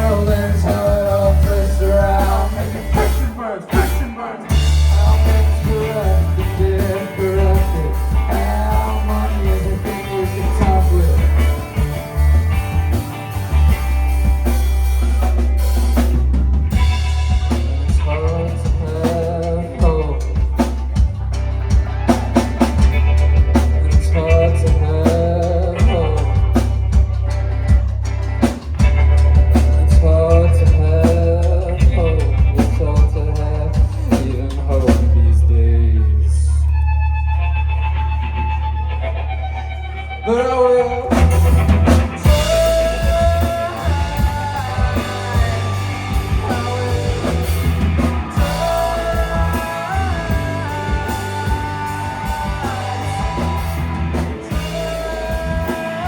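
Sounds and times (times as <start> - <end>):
melodic lead line: 0.0 - 28.2, 37.1 - 56.0
drum kit: 0.0 - 35.3, 41.0 - 56.0
heavy amplified bass: 0.0 - 56.0.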